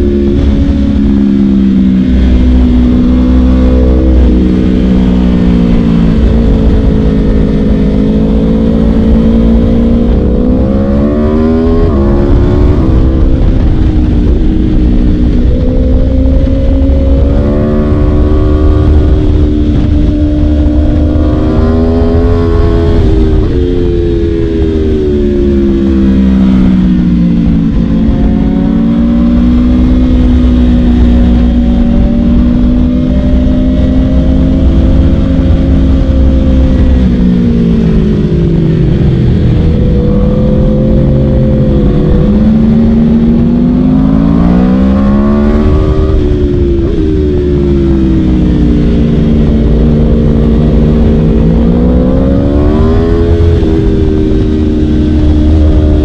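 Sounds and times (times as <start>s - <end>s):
sport bike engine revving: 0.0s - 56.0s.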